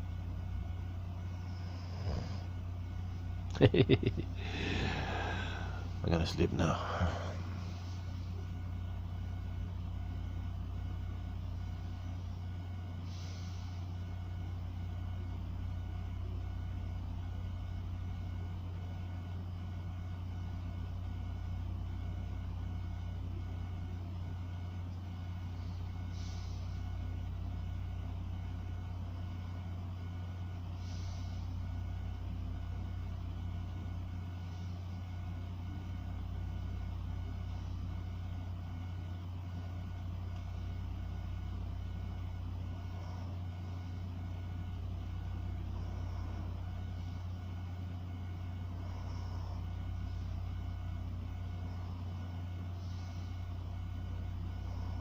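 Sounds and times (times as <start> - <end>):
low machine hum with whine: 0.0 - 55.0.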